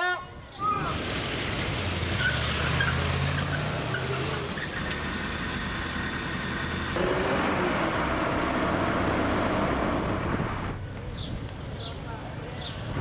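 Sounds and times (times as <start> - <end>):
car engine and road noise: 0.6 - 13.0.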